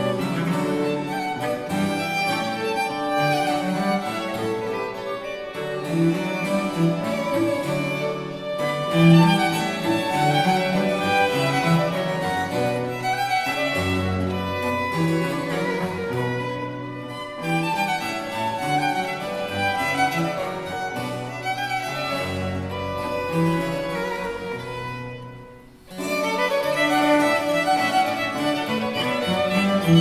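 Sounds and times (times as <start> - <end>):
cello bass line: 0.0 - 25.5, 26.1 - 30.0
violins: 0.0 - 30.0.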